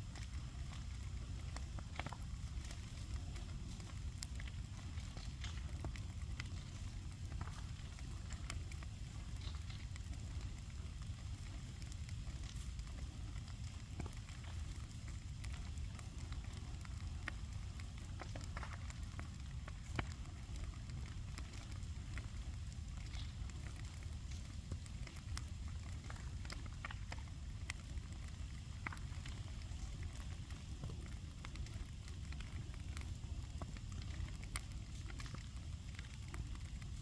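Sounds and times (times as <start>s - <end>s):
bonfire crackling and popping: 0.0s - 37.0s.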